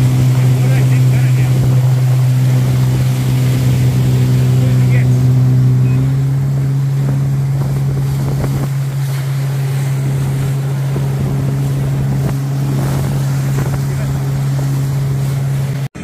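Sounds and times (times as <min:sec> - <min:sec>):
jet ski engine humming: 0:00.0 - 0:16.0
wind noise: 0:01.4 - 0:15.8.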